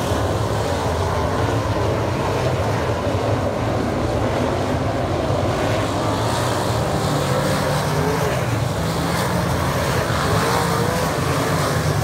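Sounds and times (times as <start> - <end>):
race car engines roaring past: 0.0 - 12.0.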